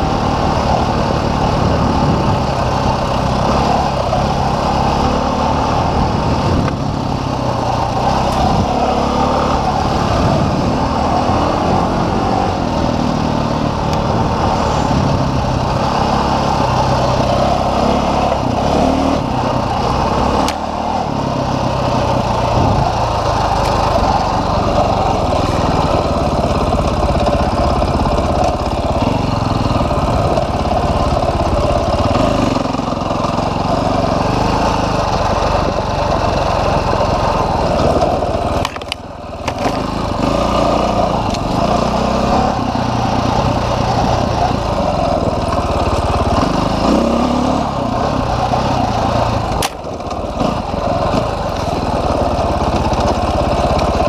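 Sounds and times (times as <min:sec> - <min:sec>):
dirt bike engine: 0:00.0 - 0:54.0.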